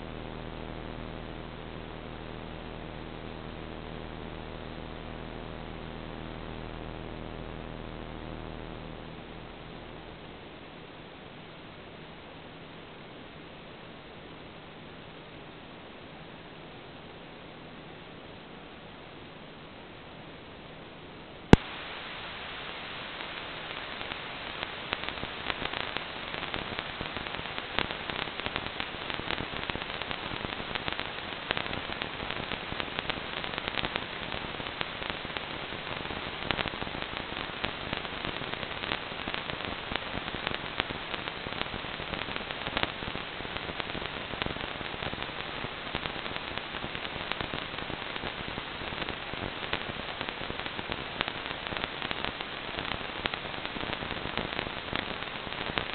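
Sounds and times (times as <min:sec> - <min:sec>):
video receiver static hiss: 0:00.0 - 0:55.9.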